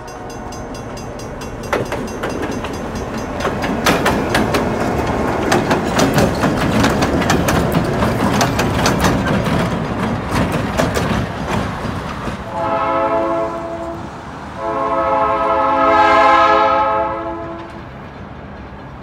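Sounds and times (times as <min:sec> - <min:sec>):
locomotive engine rumble: 0:00.0 - 0:19.0
wheels clacking on rails: 0:00.0 - 0:19.0.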